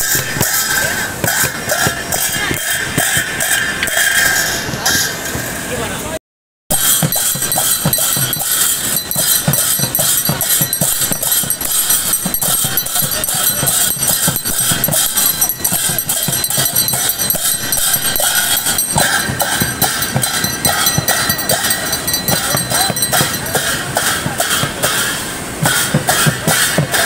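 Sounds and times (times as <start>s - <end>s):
barrel drums beaten fast: 0.0s - 4.4s, 6.7s - 27.0s
hand cymbals clashing: 0.0s - 5.2s, 6.7s - 27.0s.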